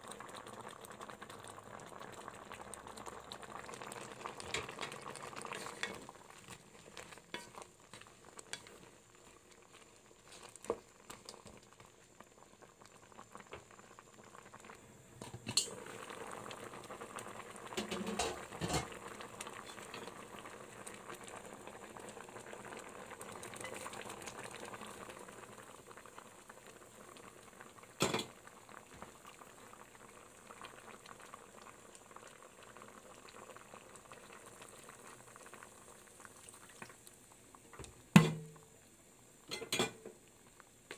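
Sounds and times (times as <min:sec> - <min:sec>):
liquid bubbling in a wok: 0:00.0 - 0:40.9.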